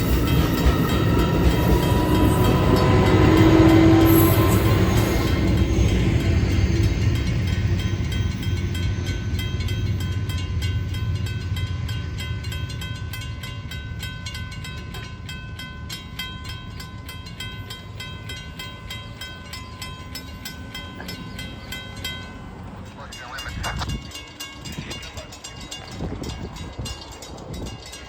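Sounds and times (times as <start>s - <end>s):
wheels clicking over rail joints: 0.0s - 23.0s, 23.8s - 28.0s
train rumbling past: 0.0s - 28.0s.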